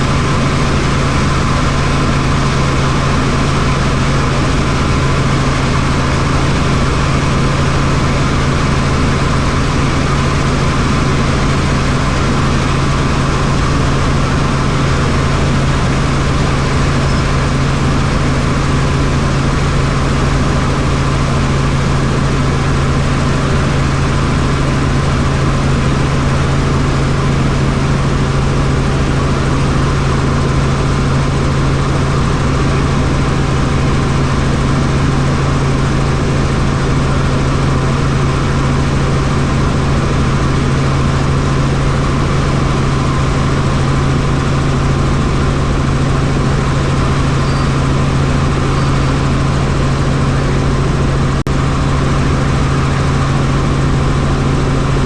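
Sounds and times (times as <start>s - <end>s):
helicopter rotor drone: 0.0s - 55.0s.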